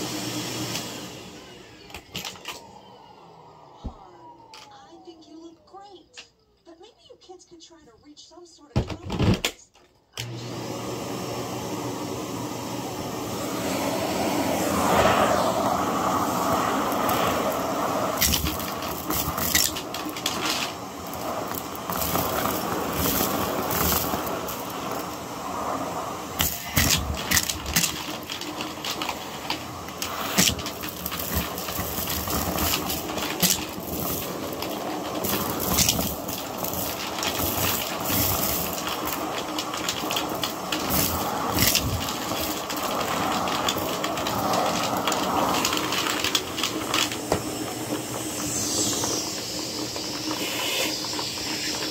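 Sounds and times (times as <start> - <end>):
vacuum cleaner running: 0.0 - 5.4, 10.2 - 51.9.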